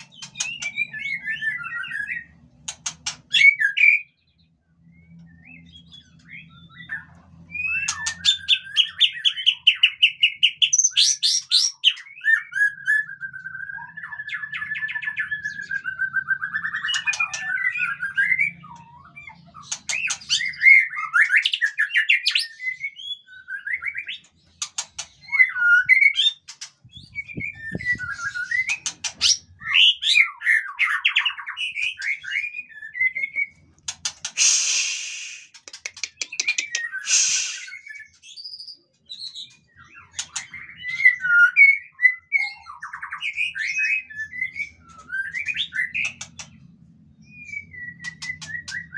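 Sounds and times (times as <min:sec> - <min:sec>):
songbird whistles and trills: 0:04.9 - 0:48.9.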